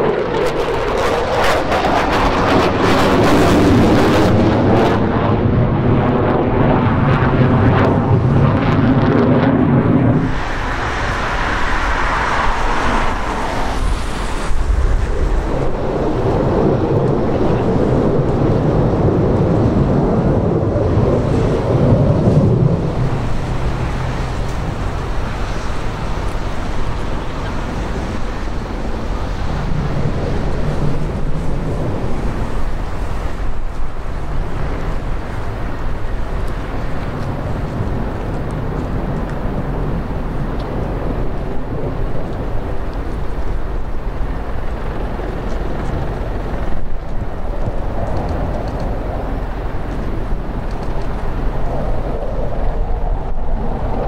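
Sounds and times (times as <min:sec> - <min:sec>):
fighter jets flying overhead: 0:00.0 - 0:54.0.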